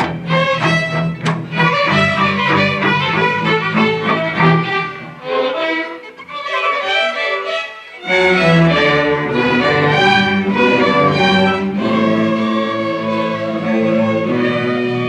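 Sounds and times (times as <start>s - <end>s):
string orchestra playing loudly: 0.0s - 15.0s.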